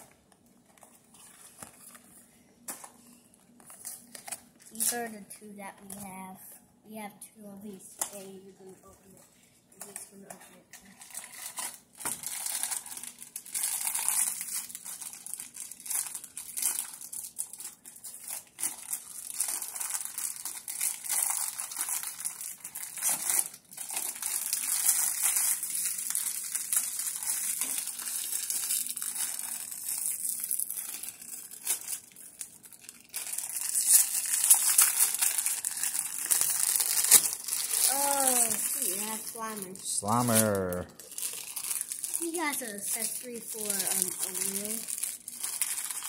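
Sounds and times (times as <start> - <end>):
plastic wrappers crinkling and tearing: 0.0 - 6.3, 8.0 - 46.0.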